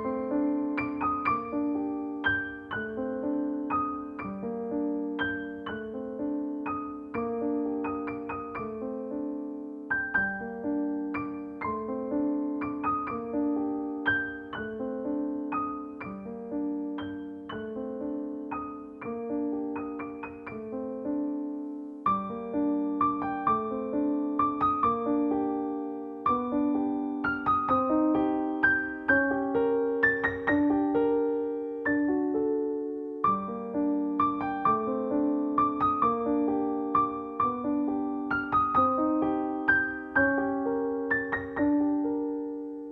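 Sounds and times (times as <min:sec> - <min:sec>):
solo piano music: 0:00.0 - 0:42.9.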